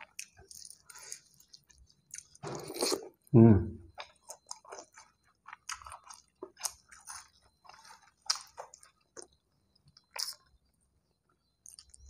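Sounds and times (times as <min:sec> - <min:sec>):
man chewing food: 0:00.0 - 0:03.3, 0:03.9 - 0:12.0.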